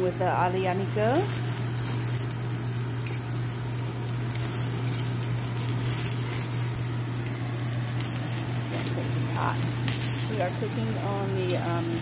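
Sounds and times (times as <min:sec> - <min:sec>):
steady low hum: 0:00.0 - 0:12.0
meat sizzling and spitting: 0:00.1 - 0:12.0.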